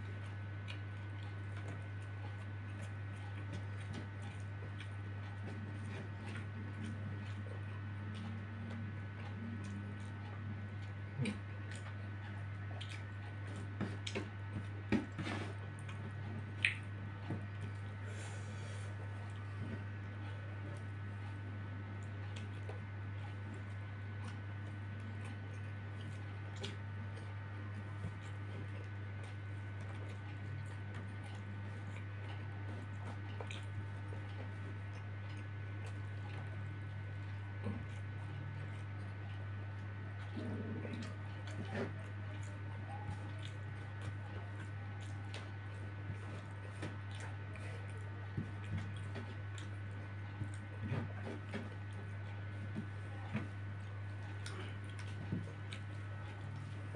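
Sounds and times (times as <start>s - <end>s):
chewing and wet squishes: 0.0s - 56.9s
steady low hum: 0.0s - 56.9s.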